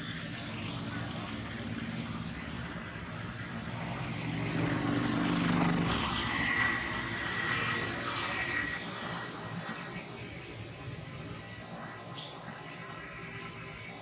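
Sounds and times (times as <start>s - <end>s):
passing motor engine drone: 0.0s - 14.0s
thin high whine: 0.0s - 14.0s.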